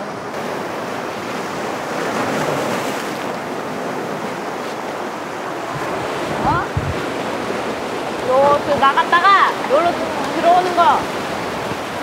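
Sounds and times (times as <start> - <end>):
waves breaking on rocky shore: 0.0 - 12.0
wind buffeting microphone: 0.0 - 12.0.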